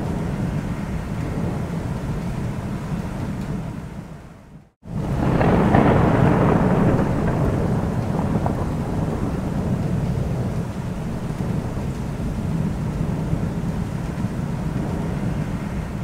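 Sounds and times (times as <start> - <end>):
rolling thunder: 0.0 - 16.0
steady rain: 0.0 - 16.0.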